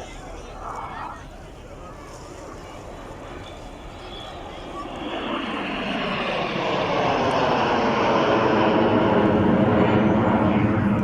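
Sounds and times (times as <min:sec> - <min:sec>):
aircraft engine: 0:00.0 - 0:11.0.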